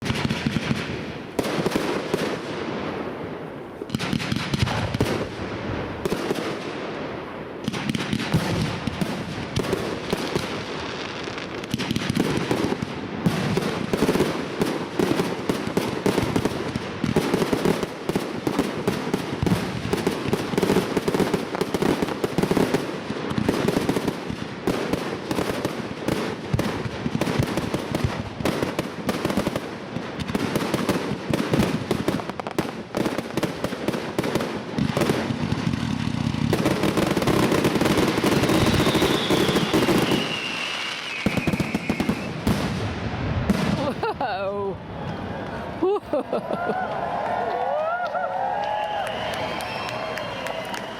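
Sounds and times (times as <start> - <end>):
fireworks bangs and crackling: 0.0 - 46.2.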